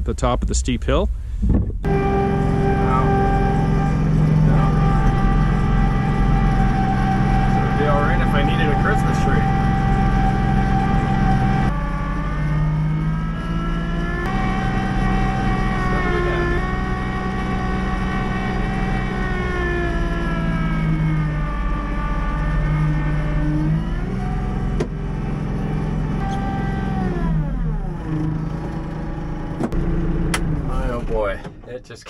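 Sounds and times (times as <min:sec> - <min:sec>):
diesel tractor engine running: 0:01.8 - 0:32.0.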